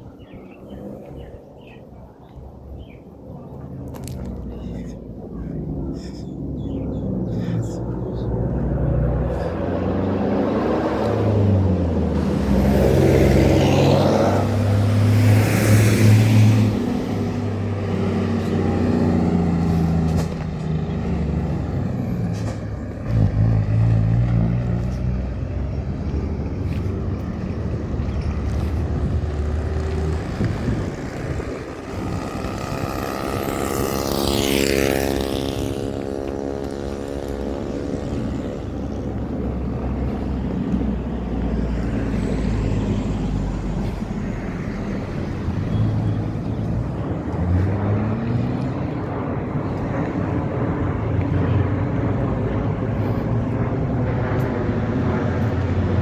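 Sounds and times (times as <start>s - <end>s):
vehicles passing on road: 0.0s - 56.0s.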